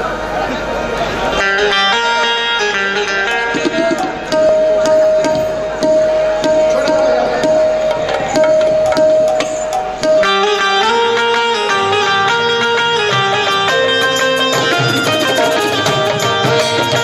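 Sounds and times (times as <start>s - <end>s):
plucked string melody: 1.0s - 17.0s
tabla playing: 1.1s - 17.0s.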